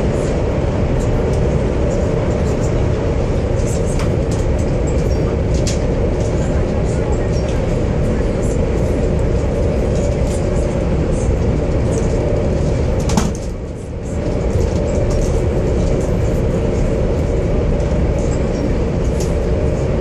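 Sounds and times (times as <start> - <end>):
train cabin rumble: 0.0 - 20.0.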